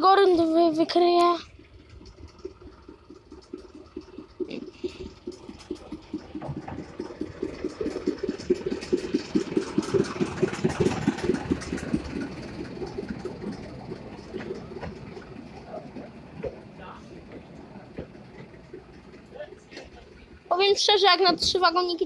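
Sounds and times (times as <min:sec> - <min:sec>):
diesel locomotive engine beating: 0:00.0 - 0:22.0.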